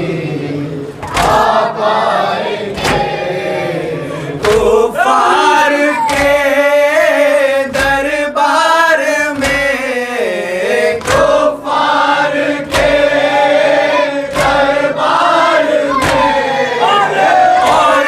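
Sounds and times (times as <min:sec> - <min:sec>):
men chanting in unison: 0:00.0 - 0:18.0.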